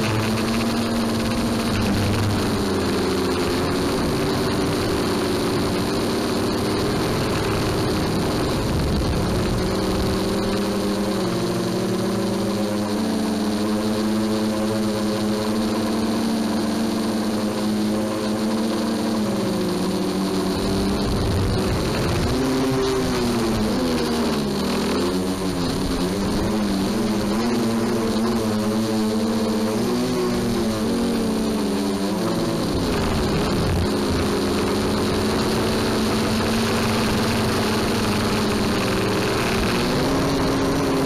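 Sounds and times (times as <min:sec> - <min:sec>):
drone propellers buzzing: 0:00.0 - 0:41.0.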